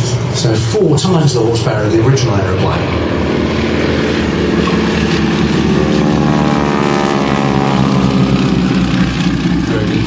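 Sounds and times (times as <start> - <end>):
biplane radial engines passing: 0.0 - 10.0.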